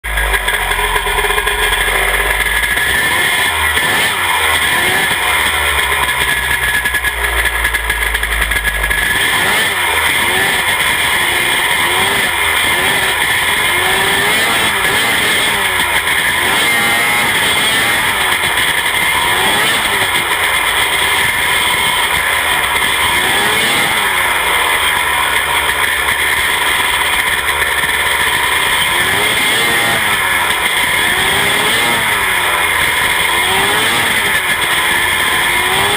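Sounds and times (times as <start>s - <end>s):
race car engine running hard: 0.0s - 35.9s.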